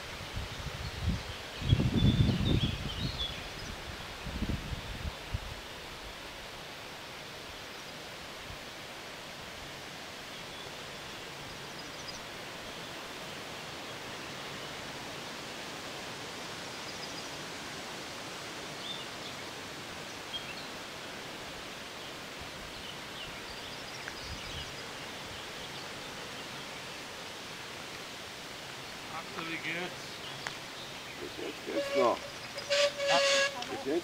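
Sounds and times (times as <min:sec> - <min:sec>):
outdoor background hiss: 0:00.0 - 0:34.0.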